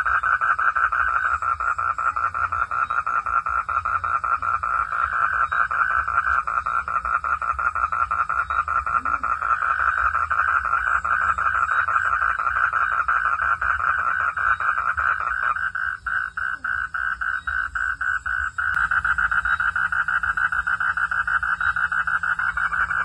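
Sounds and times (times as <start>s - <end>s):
frogs calling in trills: 0.0s - 23.0s.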